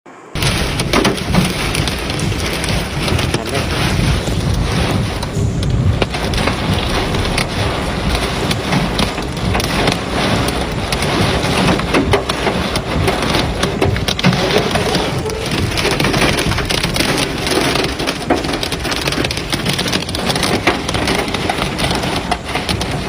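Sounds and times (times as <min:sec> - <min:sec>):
heavy rain hissing: 0:00.1 - 0:23.0
hailstones striking hard surfaces: 0:00.4 - 0:23.0.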